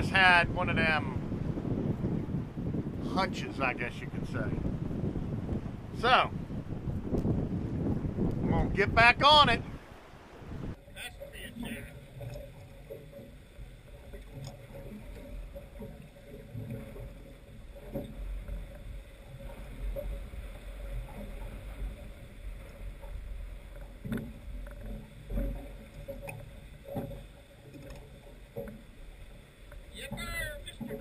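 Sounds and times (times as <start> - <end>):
water slapping boat hull: 0.0 - 31.0
wind rumble on microphone: 0.0 - 31.0.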